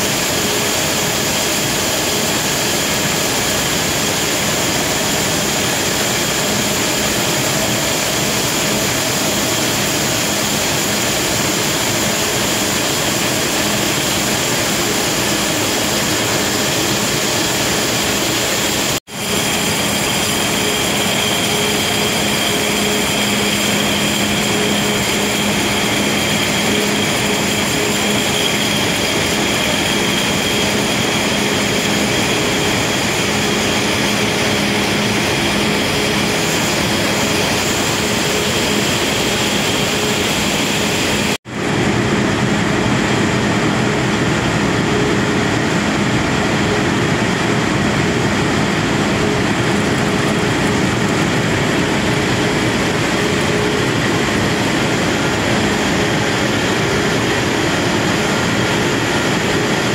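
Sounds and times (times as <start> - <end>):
machinery high whine: 0.0 - 59.9
production line machinery running: 0.0 - 59.9.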